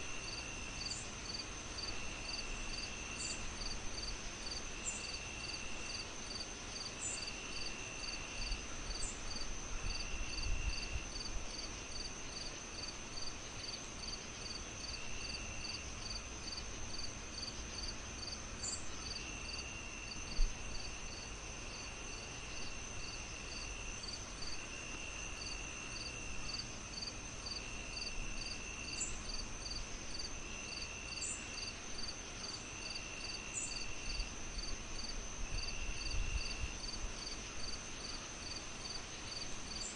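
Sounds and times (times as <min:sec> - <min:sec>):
cricket chirps: 0:00.0 - 0:39.9
on-off insect trills: 0:00.0 - 0:39.9
high insect trill: 0:00.1 - 0:39.9.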